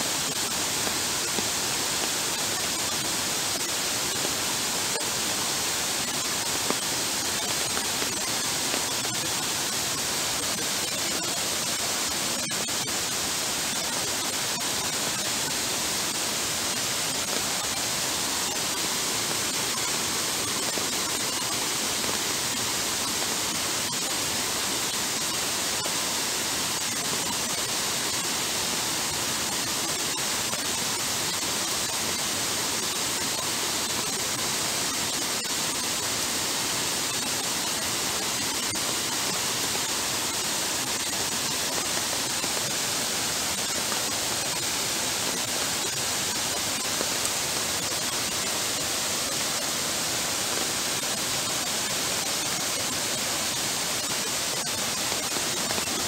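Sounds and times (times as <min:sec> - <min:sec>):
floodwater running in heavy rain: 0:00.0 - 0:56.0.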